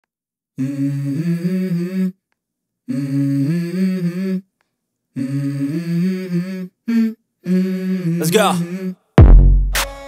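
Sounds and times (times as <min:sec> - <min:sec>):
hummed vocal melody: 0:00.6 - 0:09.2.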